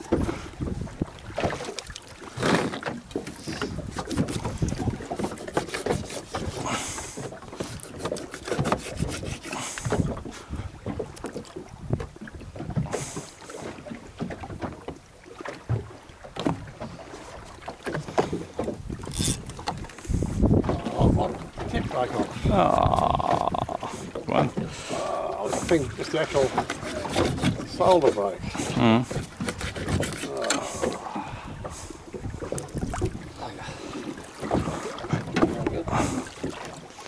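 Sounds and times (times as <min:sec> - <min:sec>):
wind buffeting microphone: 0:00.0 - 0:02.3, 0:03.1 - 0:07.9, 0:08.6 - 0:13.2, 0:15.7 - 0:36.8
water slapping against boat hull: 0:00.0 - 0:37.0.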